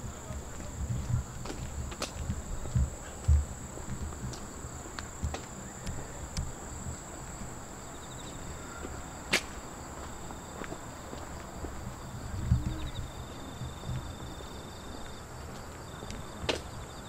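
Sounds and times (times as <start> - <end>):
footsteps thudding: 0.0 - 16.7
insects trilling: 0.0 - 17.0.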